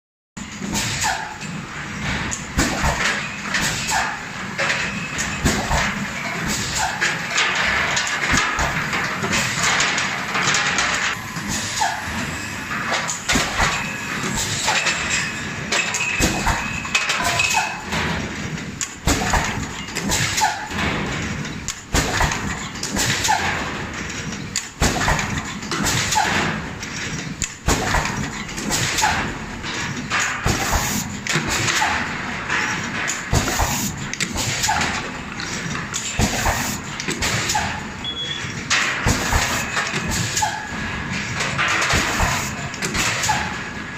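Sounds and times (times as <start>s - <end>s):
machine parts clacking: 0.4s - 43.9s.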